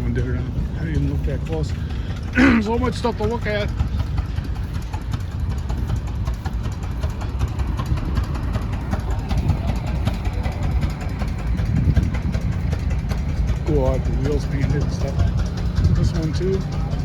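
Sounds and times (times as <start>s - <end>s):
engine running: 0.0s - 17.0s
ticks and clatter: 0.0s - 17.0s.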